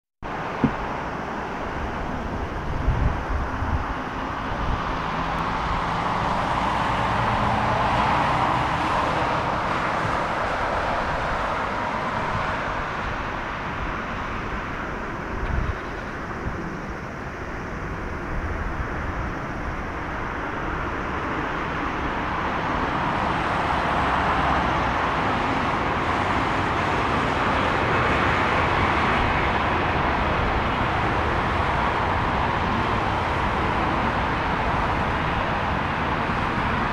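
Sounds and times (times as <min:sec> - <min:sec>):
jet engines rushing: 0:00.3 - 0:36.9.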